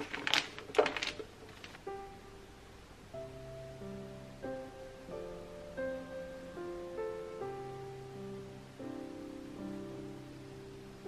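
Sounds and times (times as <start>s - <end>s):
soft instrumental music: 1.8s - 11.0s.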